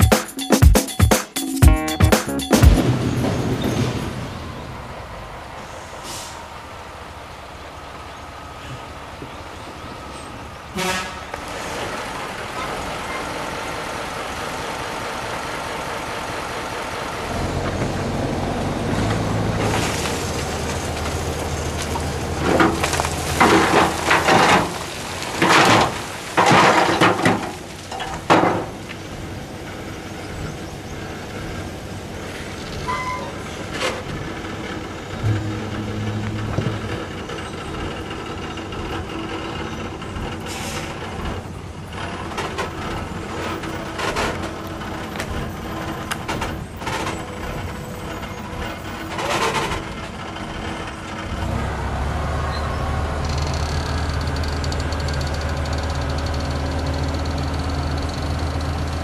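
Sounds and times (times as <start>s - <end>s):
heavy vehicle engine running: 2.4s - 26.4s, 27.0s - 59.0s.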